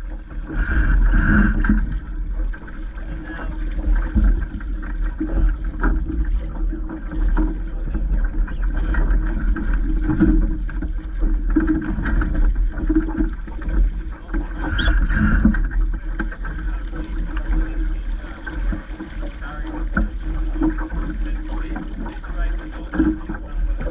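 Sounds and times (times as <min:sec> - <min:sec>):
water splashing against boat: 0:00.0 - 0:23.9
wind rumbling on microphone: 0:00.0 - 0:23.9.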